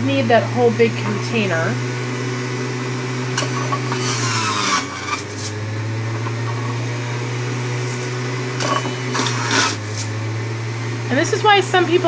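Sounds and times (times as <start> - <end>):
juicer motor humming: 0.0 - 12.0
fruit being ground up: 0.9 - 11.2.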